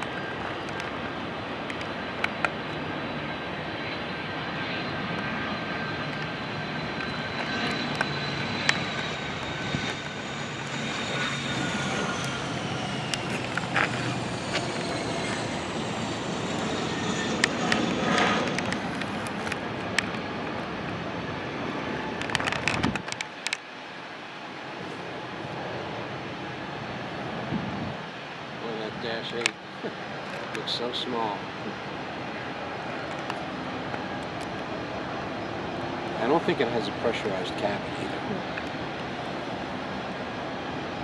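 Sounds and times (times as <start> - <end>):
aircraft engine passing by: 0.0 - 41.0.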